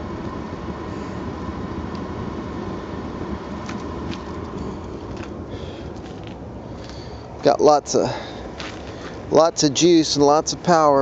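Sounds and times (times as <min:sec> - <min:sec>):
gas burners rushing rumble: 0:00.0 - 0:11.0.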